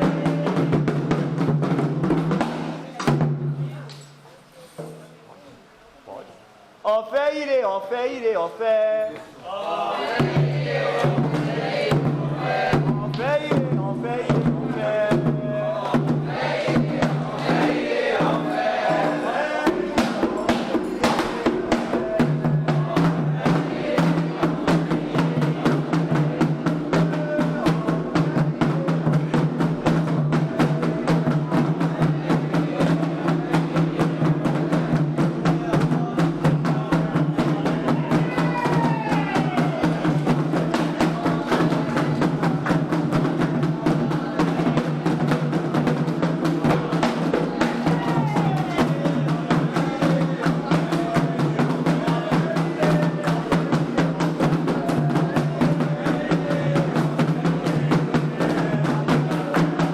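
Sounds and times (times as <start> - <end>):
hand drums drumming fast: 0.0 - 3.7, 10.2 - 59.9.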